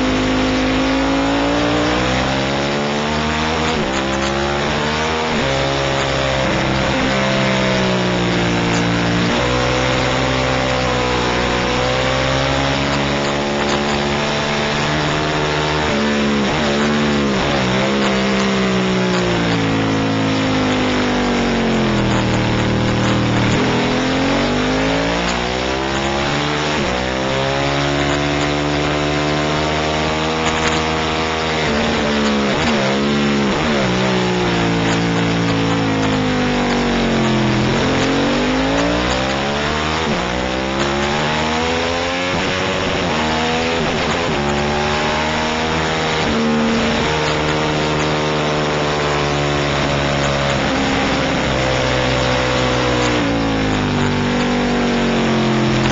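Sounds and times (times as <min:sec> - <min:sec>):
racing motorcycle engine: 0:00.0 - 0:55.9.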